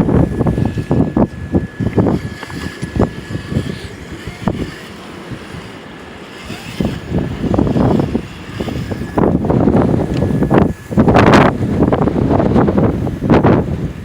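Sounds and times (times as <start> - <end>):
faint high whine: 0.0 - 14.0
wind buffeting microphone: 0.0 - 14.0.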